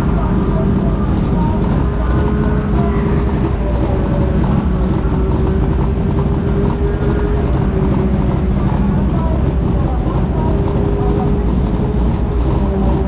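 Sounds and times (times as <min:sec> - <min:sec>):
race car engines idling: 0:00.0 - 0:13.0.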